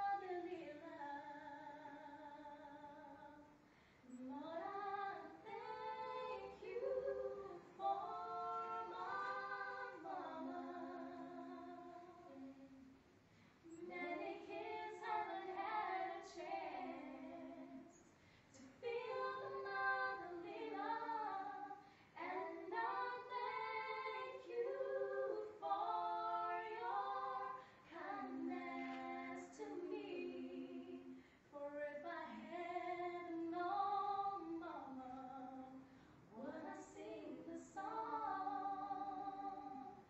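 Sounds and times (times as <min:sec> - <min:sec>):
girls singing a capella: 0:00.0 - 0:40.0.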